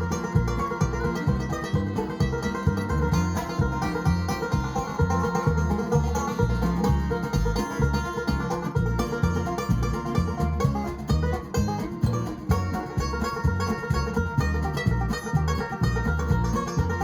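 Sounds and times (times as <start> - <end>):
country string band playing: 0.0 - 17.0.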